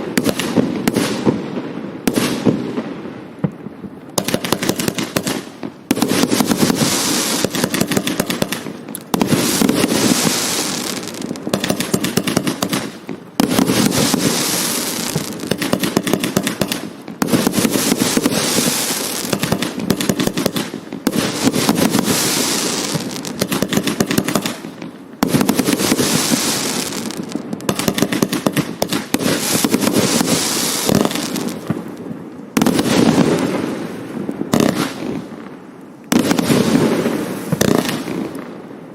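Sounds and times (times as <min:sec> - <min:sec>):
firework crackling bursts: 0:00.0 - 0:38.8.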